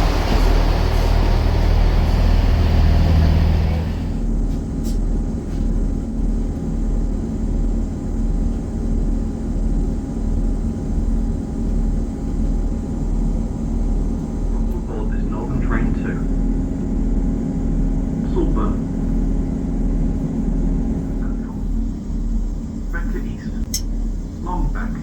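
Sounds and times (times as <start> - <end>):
diesel train engine idling: 0.0 - 25.0.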